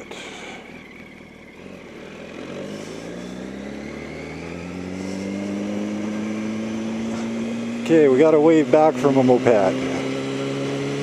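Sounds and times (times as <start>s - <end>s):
motorcycle engine accelerating: 0.0s - 11.0s
road and wind noise: 0.0s - 11.0s.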